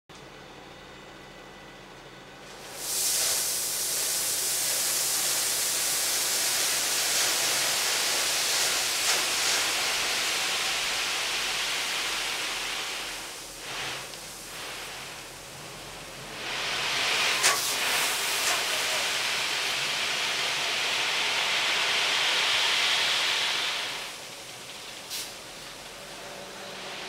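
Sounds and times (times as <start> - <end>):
gravel pouring off truck bed: 2.5 - 27.0.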